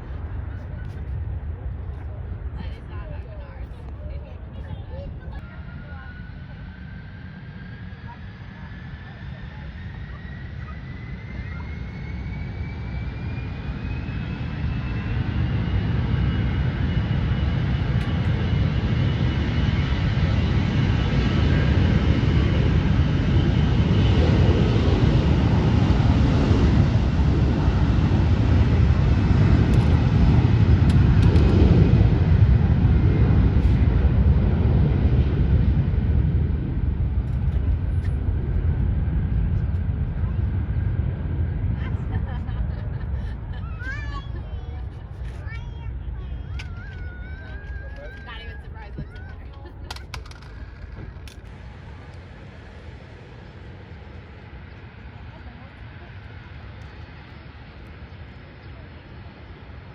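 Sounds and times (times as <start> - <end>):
high engine whine: 0.0 - 59.9
jet airliner engine rumble: 0.0 - 59.9.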